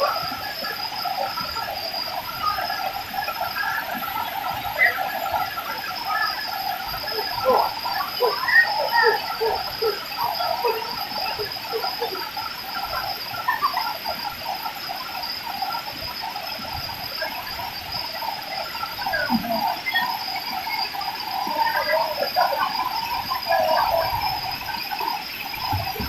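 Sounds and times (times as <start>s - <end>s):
frogs chirping: 0.0s - 26.0s
insect drone: 0.0s - 26.0s.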